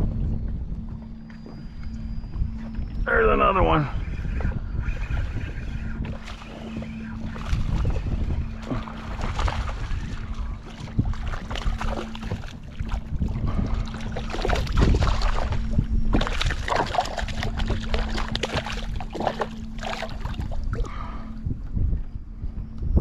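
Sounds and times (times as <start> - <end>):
water lapping against hull: 0.0 - 22.8
steady low hum: 0.0 - 23.0
wind on microphone: 0.0 - 23.0.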